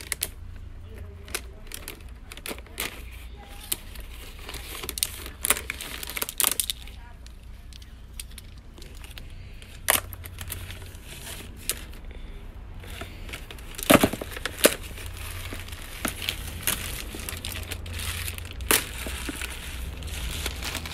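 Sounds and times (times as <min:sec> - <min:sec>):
hard beads clacking together: 0:00.0 - 0:20.9
plastic bag crinkling: 0:00.0 - 0:20.9.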